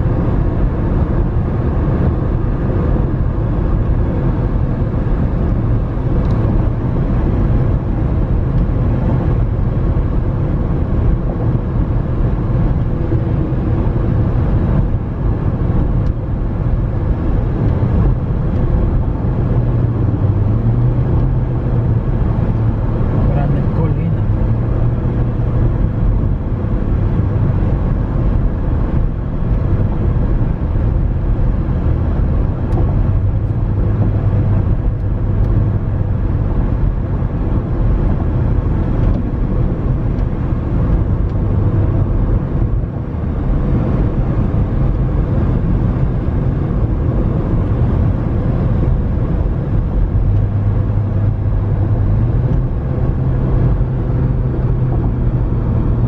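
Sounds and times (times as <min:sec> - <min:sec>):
car engine drone: 0:00.0 - 0:56.0.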